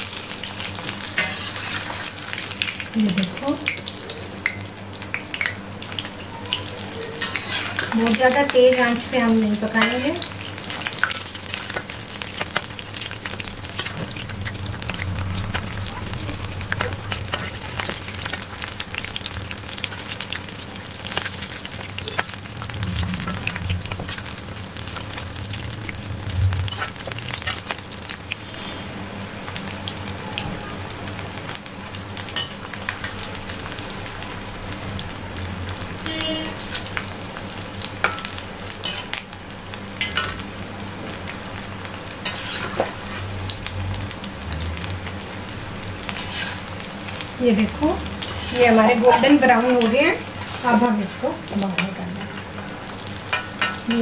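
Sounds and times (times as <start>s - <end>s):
deep-frying sizzling and crackling: 0.0s - 54.0s.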